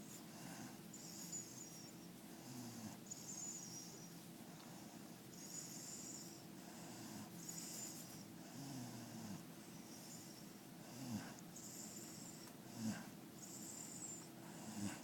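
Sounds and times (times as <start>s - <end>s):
dog snoring: 0.3s - 15.0s.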